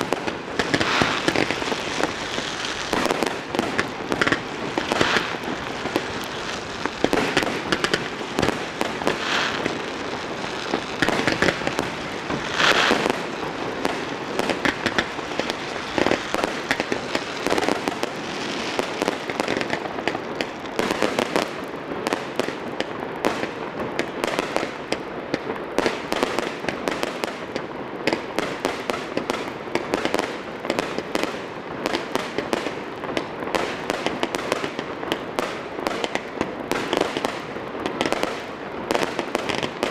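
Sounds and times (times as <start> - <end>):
fireworks popping and crackling: 0.0 - 39.9
loud firework bursts: 0.0 - 39.9.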